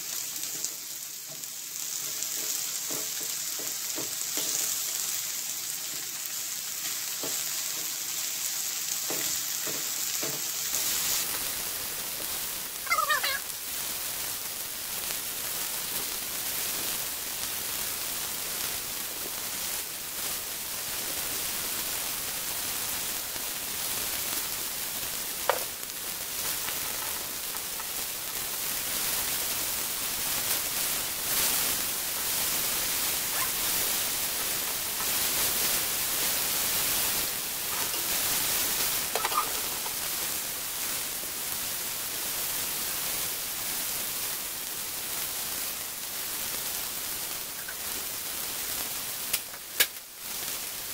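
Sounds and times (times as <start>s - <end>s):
mushrooms sizzling in a frying pan: 0.0s - 50.9s.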